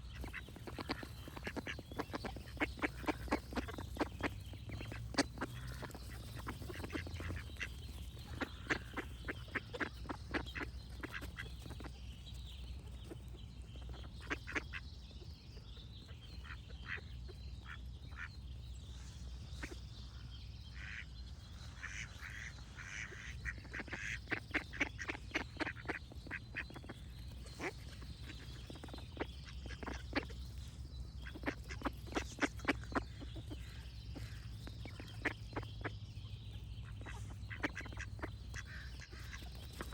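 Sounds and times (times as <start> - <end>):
ducks quacking: 0.0 - 12.4, 13.0 - 15.0, 16.1 - 18.4, 20.7 - 39.9
birds singing faintly: 0.0 - 39.9.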